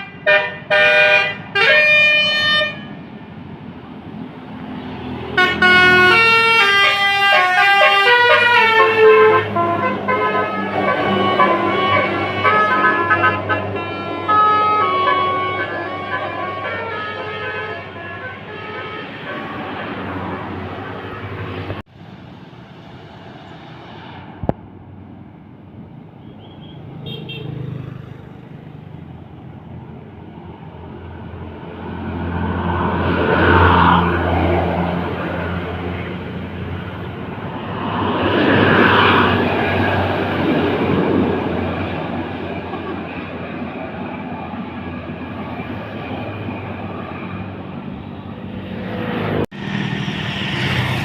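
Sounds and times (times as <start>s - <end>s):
bus passing close by: 0.0s - 51.0s
traffic noise: 0.0s - 51.0s.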